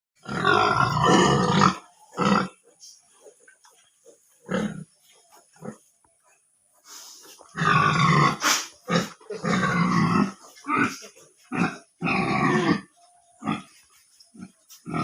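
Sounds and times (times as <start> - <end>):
pigs grunting: 0.2 - 6.4, 7.2 - 15.0.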